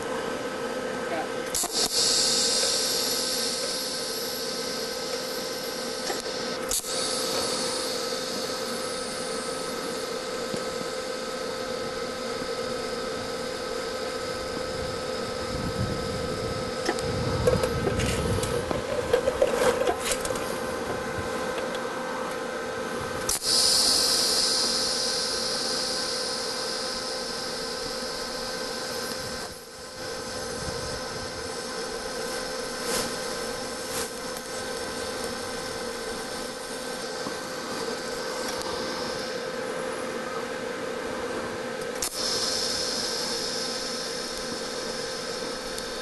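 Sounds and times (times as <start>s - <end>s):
welding arc hissing: 1.5s - 18.8s, 22.9s - 40.2s, 41.1s - 46.0s.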